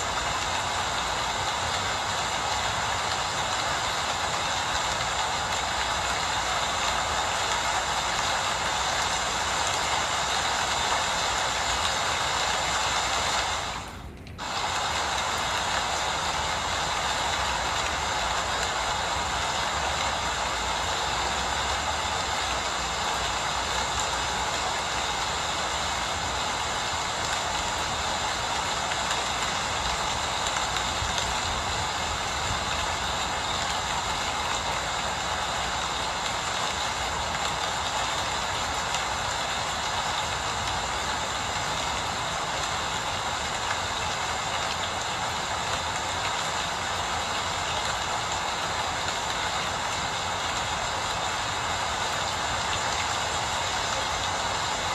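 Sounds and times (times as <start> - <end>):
steady rain hissing: 0.0 - 54.9.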